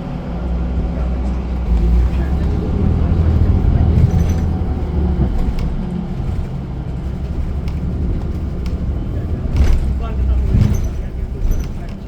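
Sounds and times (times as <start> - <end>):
bus engine and tyres rumbling: 0.0 - 12.0
faint rattling clicks: 1.7 - 12.0.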